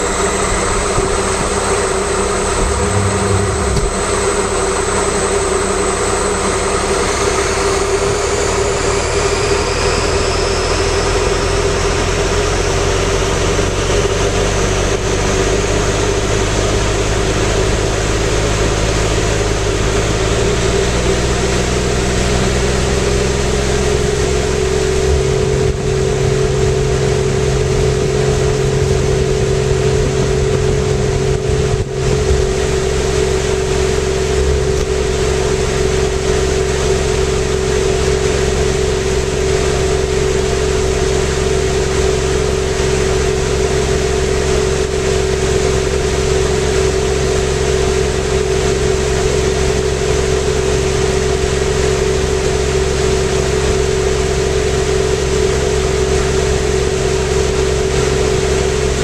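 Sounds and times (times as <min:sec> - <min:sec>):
washing machine motor whine: 0:00.0 - 0:59.0.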